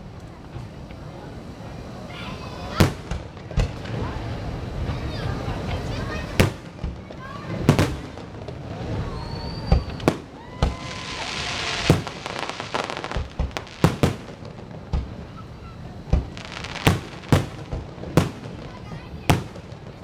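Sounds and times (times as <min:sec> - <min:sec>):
firework bangs: 0:00.0 - 0:20.0
firework crackling hiss: 0:00.0 - 0:20.0.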